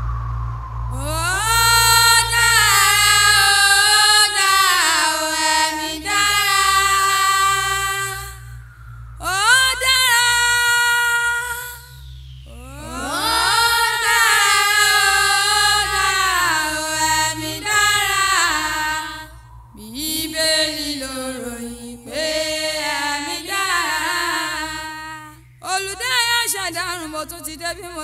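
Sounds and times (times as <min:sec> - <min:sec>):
woman singing long sliding notes: 0:00.9 - 0:08.6, 0:09.2 - 0:28.0.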